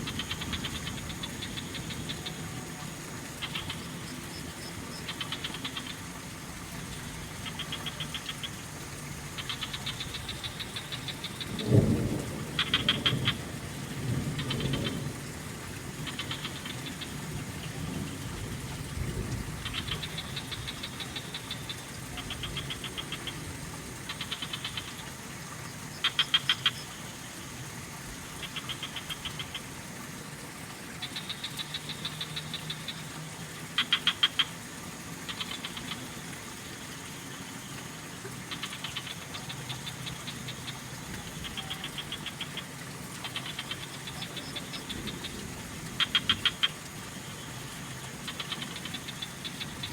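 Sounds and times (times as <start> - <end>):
frogs calling in trills: 0.0 - 49.9
trickling water: 0.0 - 49.9.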